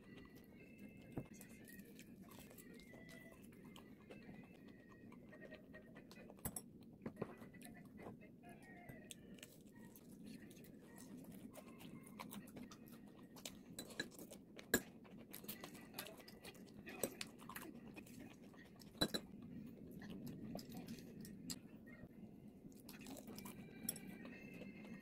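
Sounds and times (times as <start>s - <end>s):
chewing crispy food: 0.0s - 25.0s.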